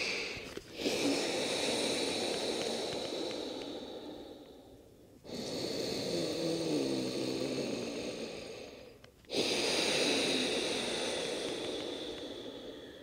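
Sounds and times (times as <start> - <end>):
deep slow breathing: 0.0 - 13.0.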